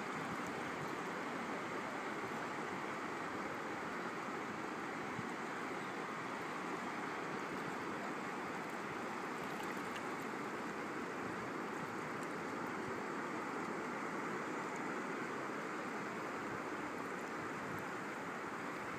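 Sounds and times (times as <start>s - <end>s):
shallow water washing over sand: 0.0s - 18.9s.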